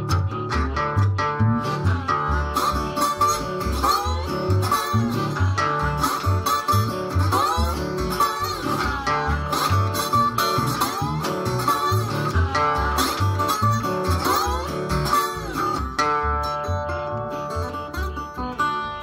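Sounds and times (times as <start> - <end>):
harmonica bending notes: 0.0 - 19.0
resonator guitar: 0.0 - 19.0
washtub bass plucking: 0.0 - 19.0.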